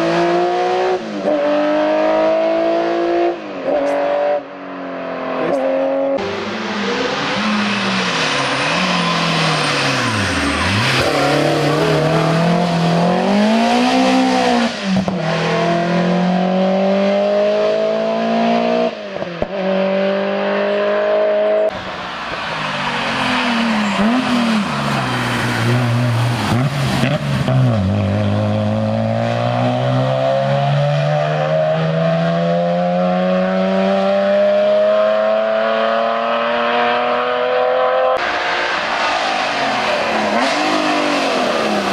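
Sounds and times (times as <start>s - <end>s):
racing car engines revving: 0.0s - 41.9s.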